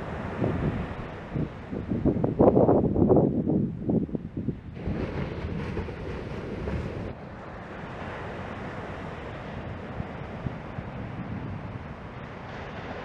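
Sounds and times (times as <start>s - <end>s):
surf washing ashore: 0.0s - 3.0s, 4.6s - 13.0s
wind rumbling on microphone: 0.0s - 13.0s.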